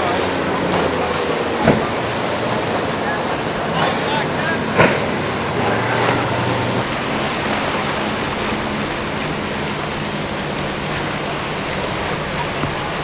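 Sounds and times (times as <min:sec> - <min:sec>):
churning water and boat wake: 0:00.0 - 0:13.0
outboard engine hum: 0:00.0 - 0:13.0.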